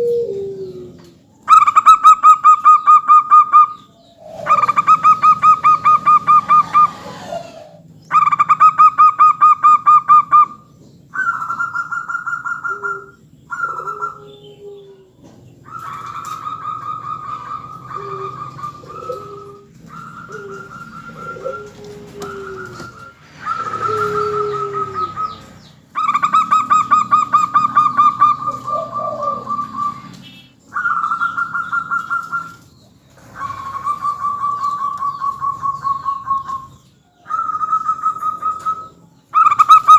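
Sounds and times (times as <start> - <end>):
doves pulsed cooing: 0.0 - 39.9.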